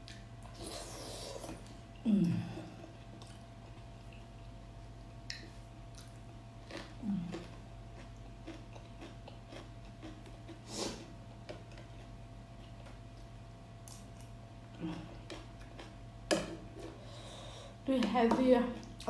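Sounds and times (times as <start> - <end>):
person chewing and eating: 0.0 - 4.6, 5.2 - 17.6
steady low hum: 0.0 - 19.0.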